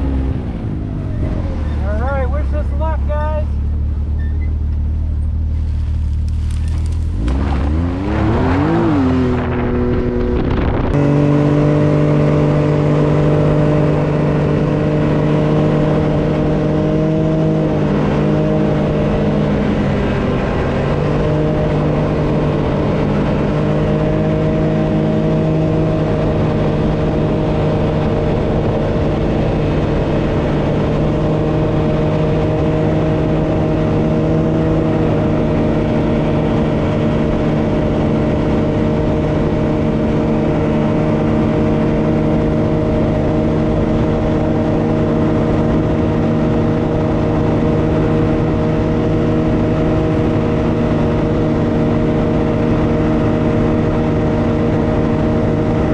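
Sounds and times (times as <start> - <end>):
vehicle engine revving: 0.0 - 55.9.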